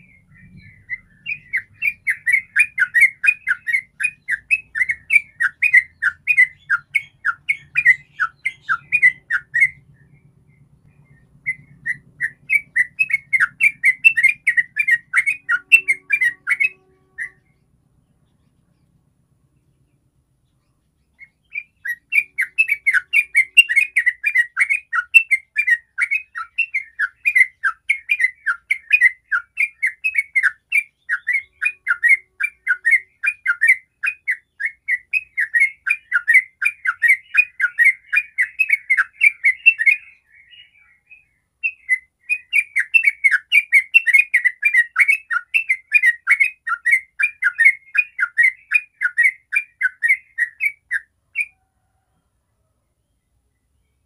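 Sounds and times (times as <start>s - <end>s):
bird singing chattering notes: 0.0s - 19.0s, 19.6s - 51.5s.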